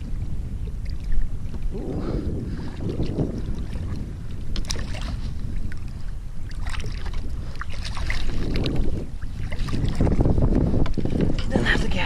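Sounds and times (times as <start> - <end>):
water splashing against kayak hull: 0.0 - 12.0
wind rumbling on microphone: 0.0 - 12.0.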